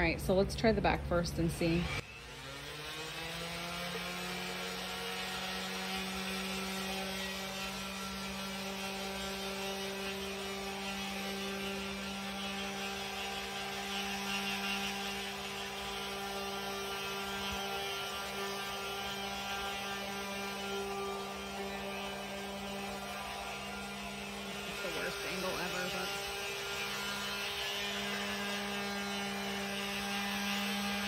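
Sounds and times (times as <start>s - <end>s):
orbital sander on wood: 1.4s - 31.0s.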